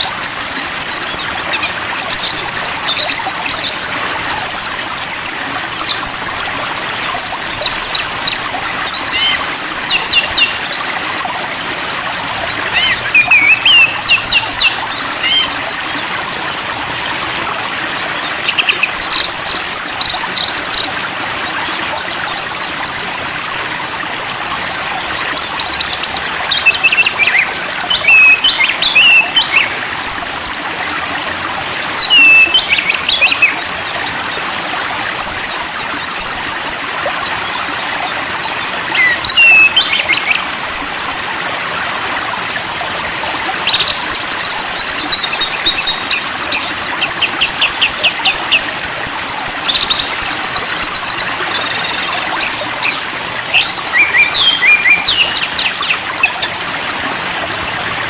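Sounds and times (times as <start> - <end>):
songbirds whistling and chirping: 0.0 - 16.2, 17.6 - 30.9, 31.9 - 41.4, 43.5 - 56.6
stream rushing: 0.0 - 58.0.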